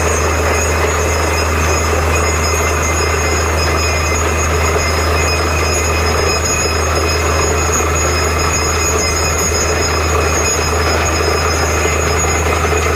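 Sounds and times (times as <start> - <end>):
drilling rig running: 0.0 - 12.9
whining tones: 0.0 - 12.9.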